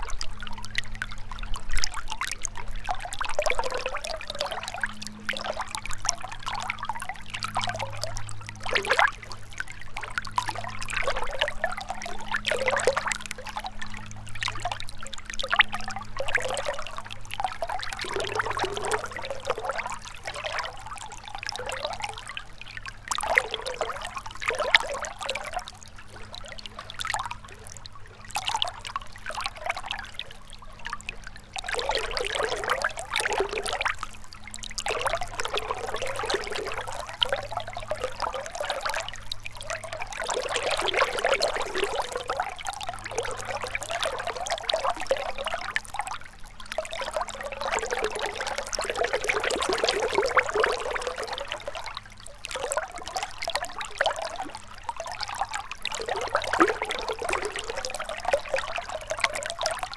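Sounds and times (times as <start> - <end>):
river water trickling: 0.0 - 59.9.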